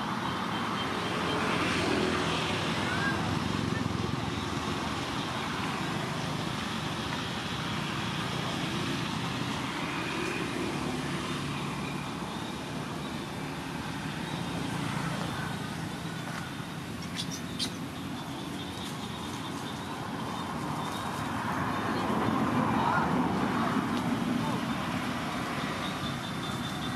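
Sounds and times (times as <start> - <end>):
distant road traffic hum: 0.0 - 26.9.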